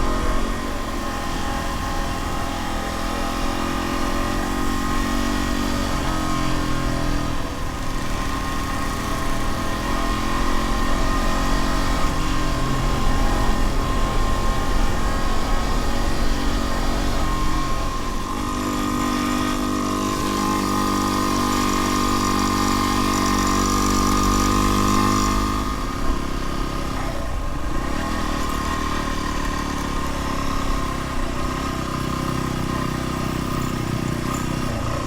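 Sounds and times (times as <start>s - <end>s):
dirt bike engine running: 0.0s - 35.0s.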